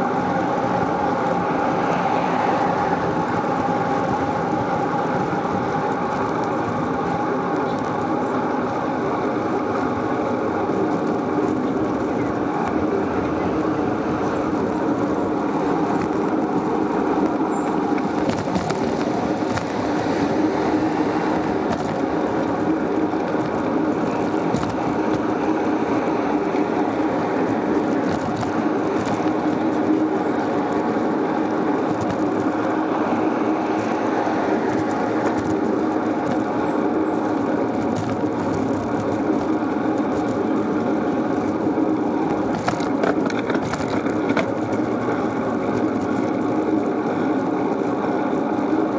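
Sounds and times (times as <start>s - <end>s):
bicycle road and wind noise: 0.0s - 48.9s.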